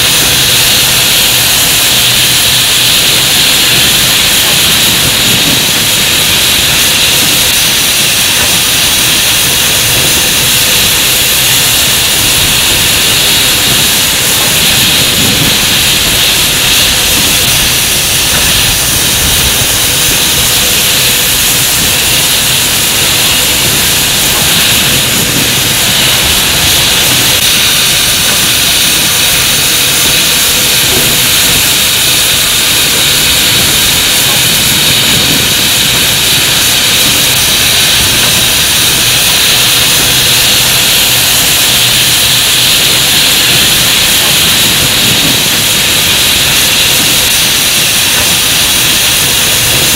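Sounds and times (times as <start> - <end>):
steam locomotive hissing rush: 0.0 - 49.9.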